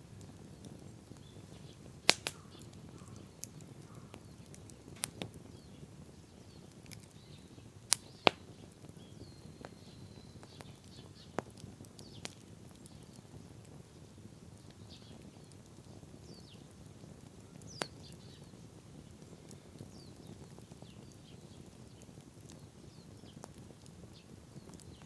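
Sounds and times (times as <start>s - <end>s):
campfire crackling: 0.0s - 25.0s
campfire sharp pops: 0.0s - 25.0s.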